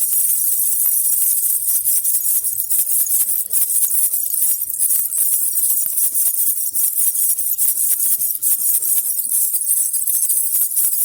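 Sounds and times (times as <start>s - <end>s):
baby rattle jingling: 0.0s - 11.0s.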